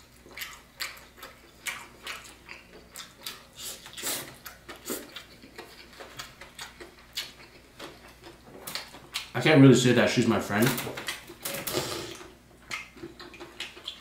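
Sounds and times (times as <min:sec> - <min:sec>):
person chewing: 0:00.0 - 0:09.3, 0:11.1 - 0:14.0.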